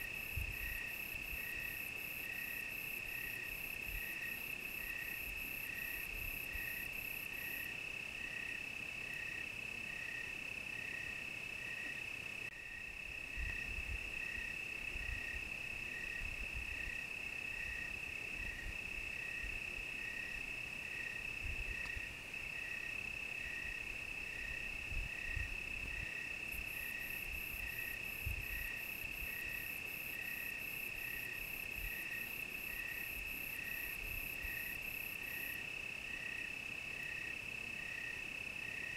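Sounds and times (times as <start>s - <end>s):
cricket chirping: 0.0s - 38.9s
crickets steady high trill: 0.0s - 38.9s
high fast pulsing insect chorus: 0.0s - 38.9s.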